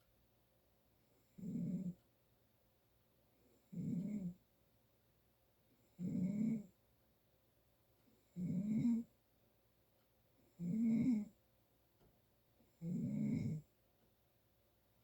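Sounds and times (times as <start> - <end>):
quiet breaths: 0.0 - 15.0.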